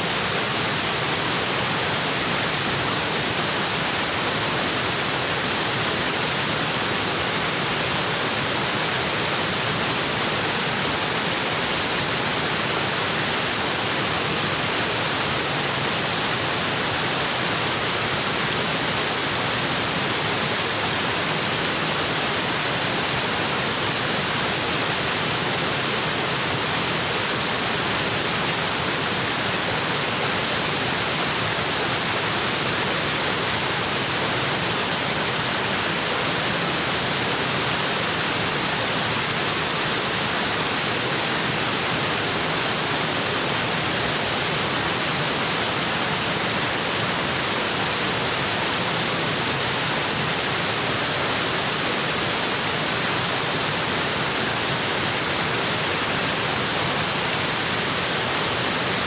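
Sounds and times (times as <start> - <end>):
waterfall rushing onto rocks: 0.0 - 59.0.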